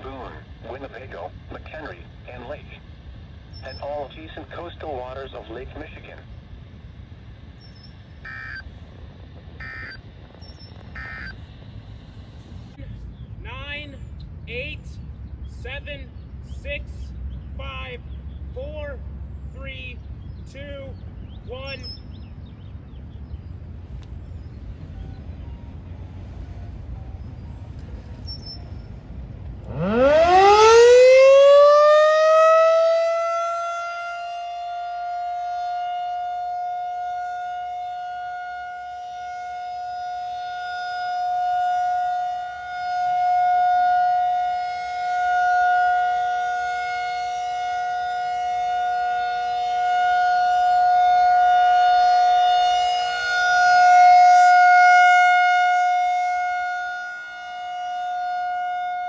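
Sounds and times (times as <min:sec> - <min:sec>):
tornado warning siren wailing: 0:00.0 - 0:13.0, 0:17.1 - 0:59.0.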